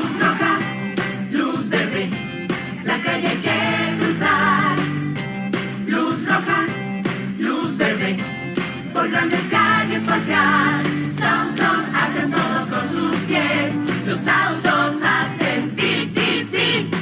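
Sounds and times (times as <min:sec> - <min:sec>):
upbeat children's pop music: 0:00.0 - 0:17.0
voices singing: 0:00.0 - 0:17.0.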